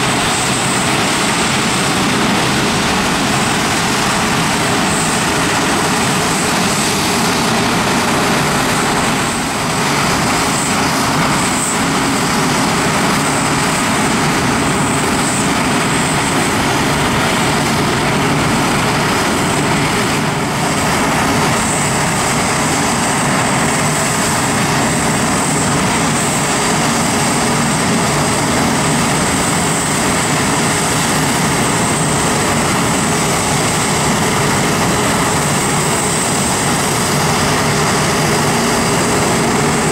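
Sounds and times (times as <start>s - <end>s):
jet engines rumbling with whine: 0.0s - 39.9s.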